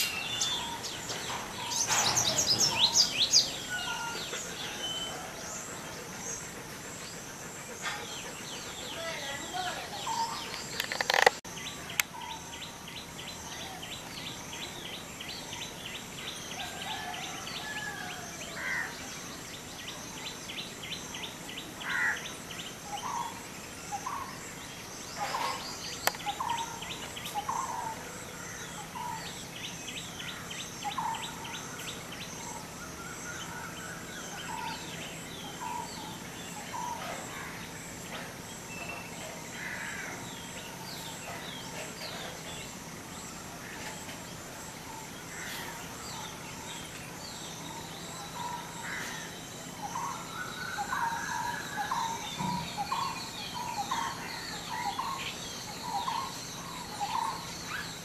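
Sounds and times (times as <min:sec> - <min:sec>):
small birds chirping: 0:00.0 - 0:17.1, 0:18.6 - 0:58.0
steady outdoor hiss: 0:00.0 - 0:58.0.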